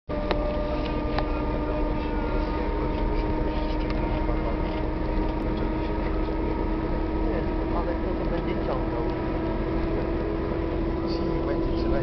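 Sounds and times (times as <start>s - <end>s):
engine drone: 0.1s - 12.0s
road noise: 0.1s - 12.0s
steady whine: 0.1s - 12.0s.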